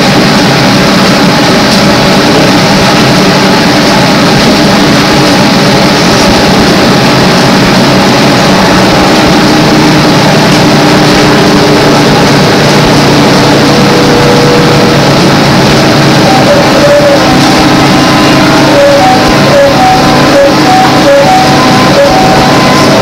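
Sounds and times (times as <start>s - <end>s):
low hum: 0.0s - 23.0s
trolleybus ride noise: 0.0s - 23.0s.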